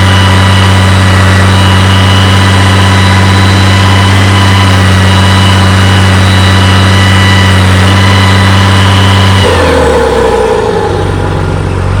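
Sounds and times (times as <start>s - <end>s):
engine whistle: 0.0s - 12.0s
tractor diesel engine revving: 0.0s - 12.0s.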